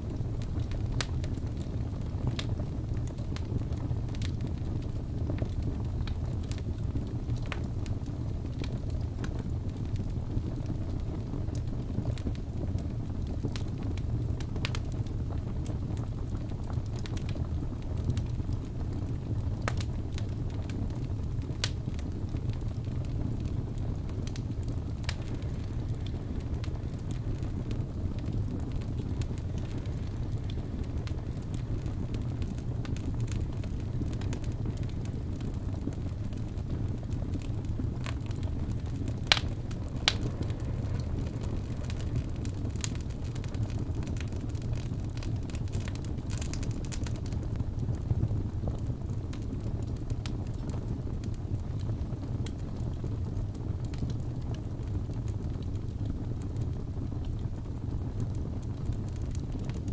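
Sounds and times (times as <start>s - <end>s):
burning wood crackling: 0.0s - 59.9s
low rumble of flames: 0.0s - 59.9s.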